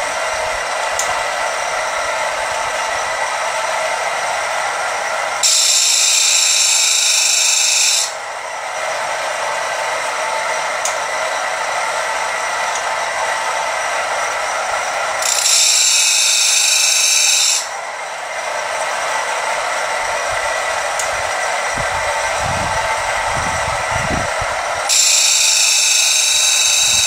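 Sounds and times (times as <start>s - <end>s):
grinder motor whirring: 0.0s - 27.0s.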